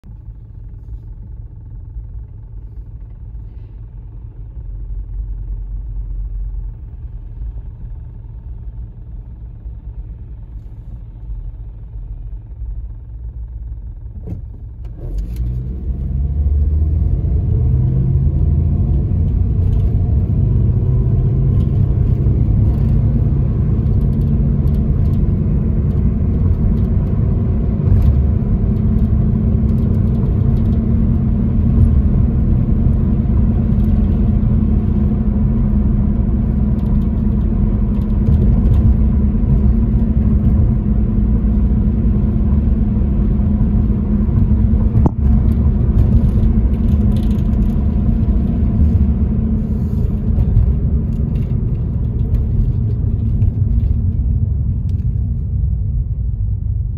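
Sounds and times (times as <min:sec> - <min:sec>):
car engine idling: 0:00.0 - 0:15.0, 0:18.8 - 0:56.9
car engine and road noise: 0:00.0 - 0:56.9.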